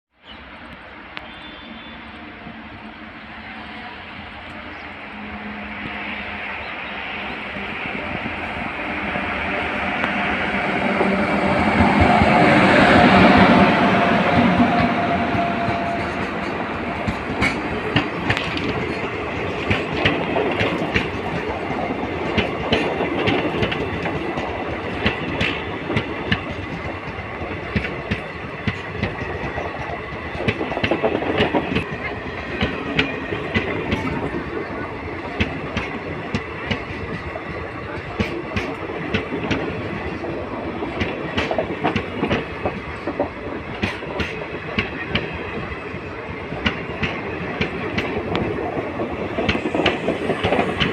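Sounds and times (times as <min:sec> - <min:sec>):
train rolling rumble: 0:00.4 - 0:50.9.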